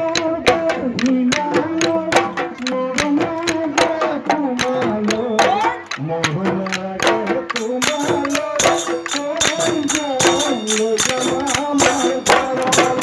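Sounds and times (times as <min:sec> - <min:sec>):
man singing into a microphone: 0:00.0 - 0:13.0
quick drum beat: 0:00.0 - 0:13.0.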